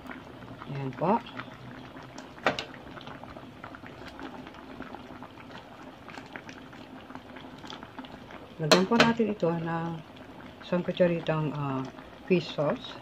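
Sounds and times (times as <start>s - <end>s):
broth boiling in a pot: 0.0s - 13.0s.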